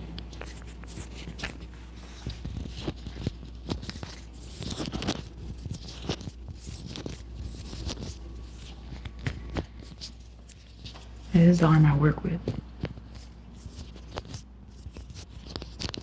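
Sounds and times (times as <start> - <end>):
soft rustling and scraping: 0.0 - 16.0.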